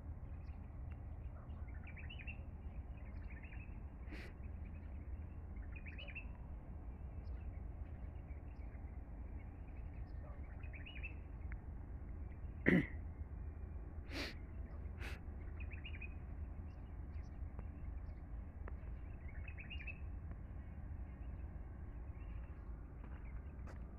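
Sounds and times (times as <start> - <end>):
steady low rumble: 0.0 - 23.9
birds chirping: 0.2 - 23.9.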